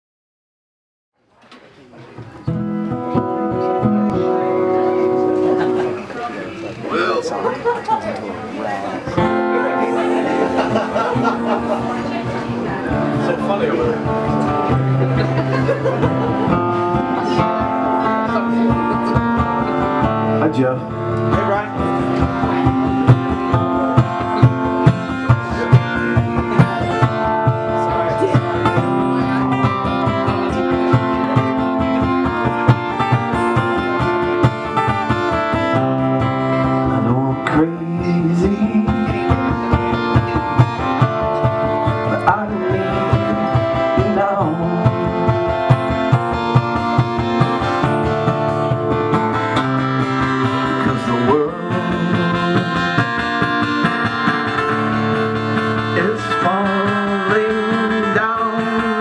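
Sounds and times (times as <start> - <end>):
acoustic guitar strumming: 2.3 - 59.0.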